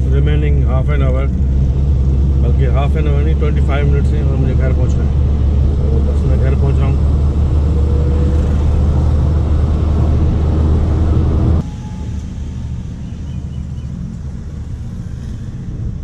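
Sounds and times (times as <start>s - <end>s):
engine and road noise rumble: 0.0s - 16.0s
light traffic and engine noise: 0.0s - 16.0s.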